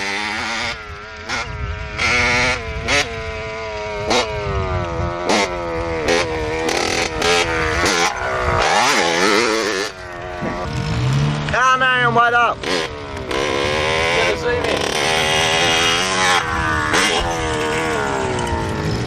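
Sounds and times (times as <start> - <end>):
small motorbike engine revving: 0.0 - 19.0.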